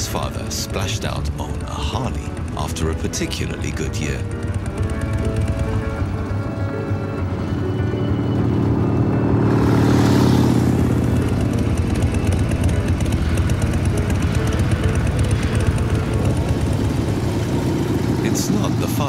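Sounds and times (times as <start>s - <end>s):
motorcycle engine passing: 0.0s - 19.0s.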